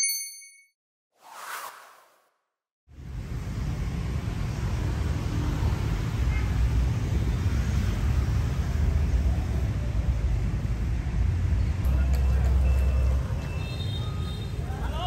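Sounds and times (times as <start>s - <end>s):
road traffic rumble: 2.9s - 15.0s.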